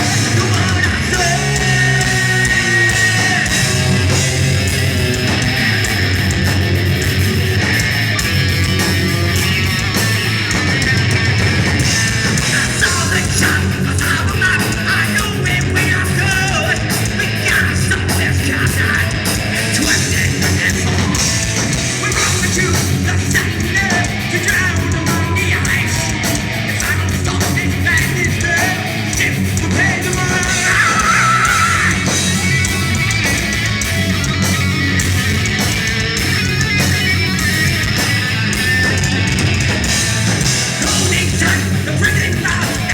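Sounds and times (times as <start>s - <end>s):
heavy metal band playing live: 0.0s - 42.9s.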